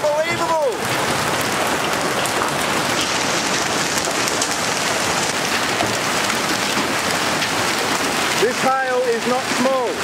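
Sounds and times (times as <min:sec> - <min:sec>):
hailstones pelting down: 0:00.0 - 0:10.0.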